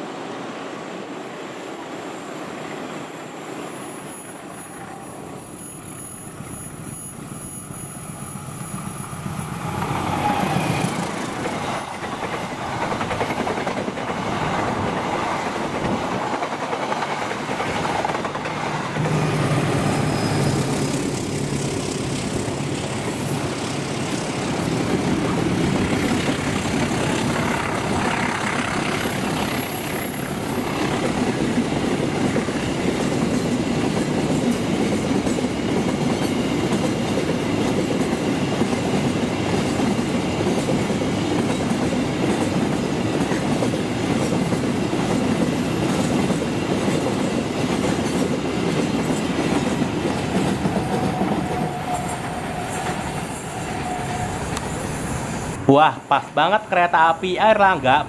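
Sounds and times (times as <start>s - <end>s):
train rolling past on rails: 0.0s - 57.8s.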